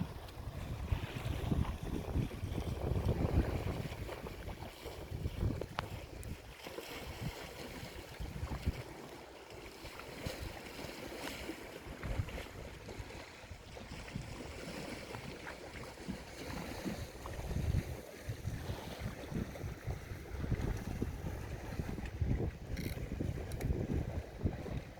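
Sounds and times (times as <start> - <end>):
wind buffeting microphone: 0.0 - 8.8, 11.8 - 15.0, 16.4 - 24.9
sea waves: 0.0 - 24.9.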